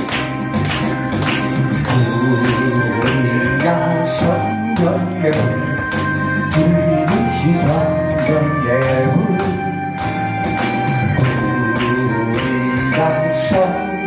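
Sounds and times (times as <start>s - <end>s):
percussion hits: 0.0s - 13.7s
band playing worship music: 0.0s - 14.0s.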